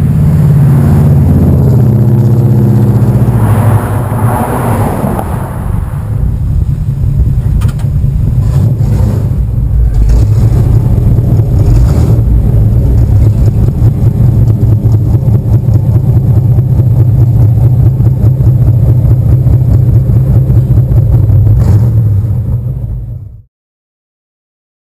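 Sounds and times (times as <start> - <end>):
car engine rumbling: 0.0 - 23.5.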